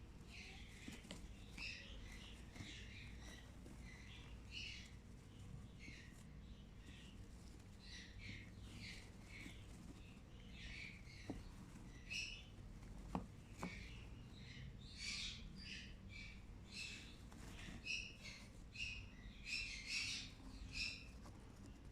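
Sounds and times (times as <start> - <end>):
parrot chicks chirping: 0.0 - 21.9.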